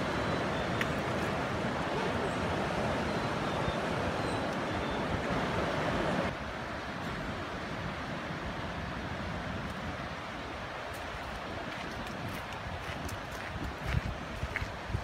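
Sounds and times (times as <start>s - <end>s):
rushing white water: 0.0s - 15.0s.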